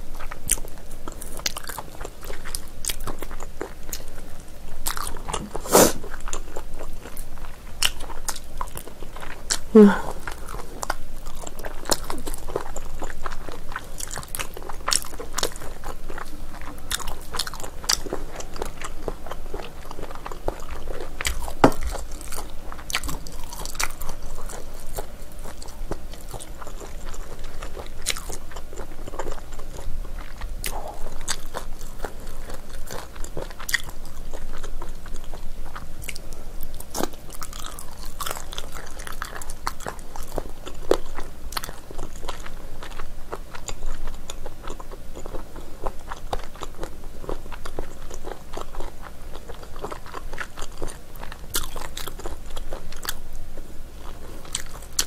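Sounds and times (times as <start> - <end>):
wet chewing and smacking: 0.1 - 53.4, 54.0 - 55.0.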